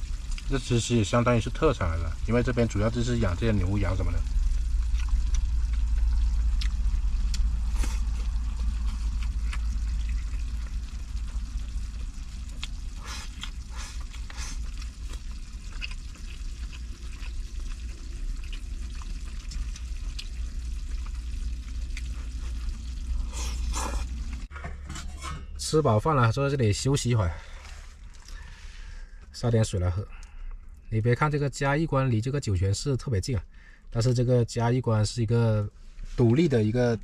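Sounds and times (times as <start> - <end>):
steady low hum: 0.0 - 31.5.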